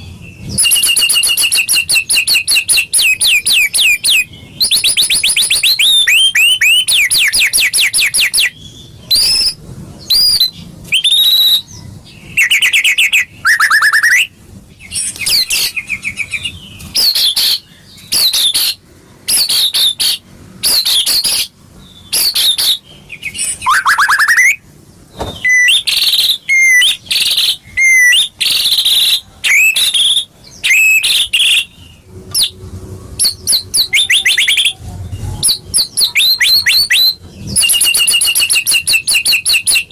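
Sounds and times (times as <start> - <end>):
bird singing whistles and trills: 0.0 - 32.6, 33.2 - 39.9.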